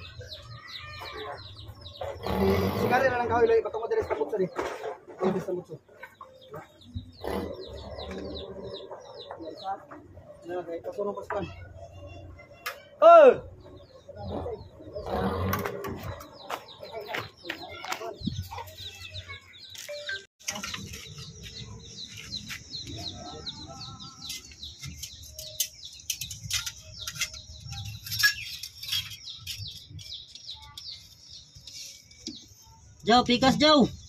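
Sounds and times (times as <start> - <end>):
chickens clucking: 0.0 - 12.9, 13.5 - 32.6
small birds chirping: 0.0 - 34.0.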